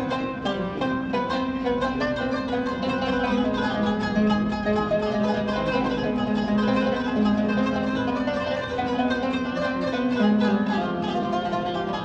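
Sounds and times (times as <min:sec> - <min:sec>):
instrumental music with plucked strings: 0:00.0 - 0:12.0.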